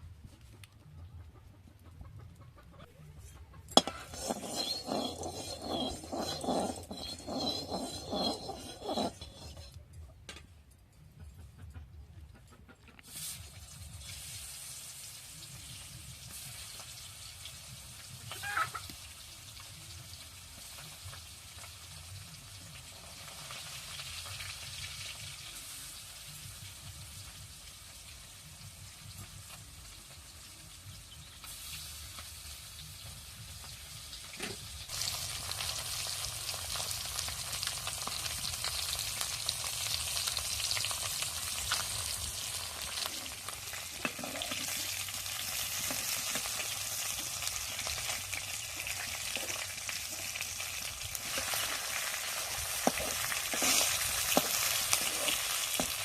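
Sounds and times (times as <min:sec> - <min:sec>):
oil sizzling in a pan: 0:03.8 - 0:09.8, 0:13.1 - 0:56.0.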